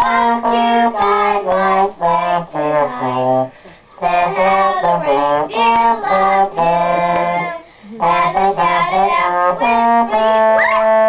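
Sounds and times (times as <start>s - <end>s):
girls singing: 0.0s - 11.0s.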